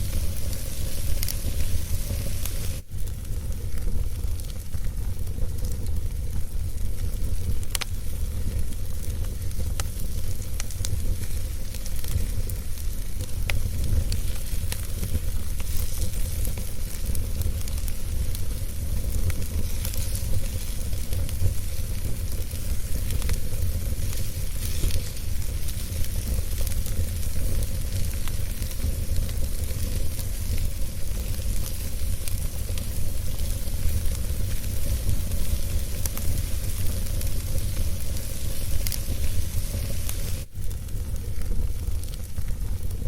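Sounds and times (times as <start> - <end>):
burning logs crackling and popping: 0.0 - 43.0
wood fire rumbling and hissing: 0.0 - 43.0.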